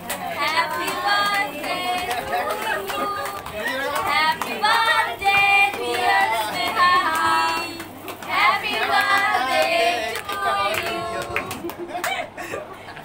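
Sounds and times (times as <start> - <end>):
group singing: 0.0 - 11.7
hands clapping: 0.0 - 12.2.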